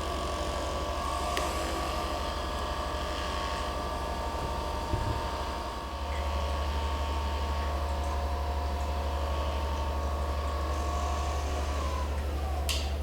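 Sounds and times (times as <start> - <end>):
electric massager pulsing: 0.0 - 12.7.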